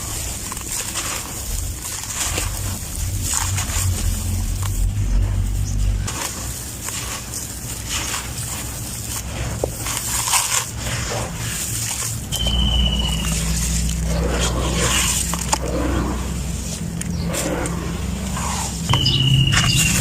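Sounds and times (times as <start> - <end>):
sand-cement crumbling: 0.0 - 17.5
steady low hum: 0.0 - 20.0.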